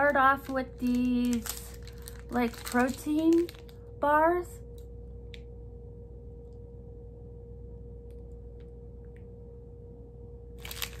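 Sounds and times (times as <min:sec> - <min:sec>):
low hum with constant tone: 0:00.0 - 0:11.0.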